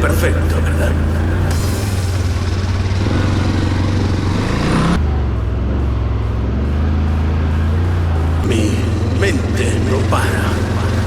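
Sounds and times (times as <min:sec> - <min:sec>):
atv engine running: 0:00.0 - 0:11.0
rushing noise: 0:00.0 - 0:11.0.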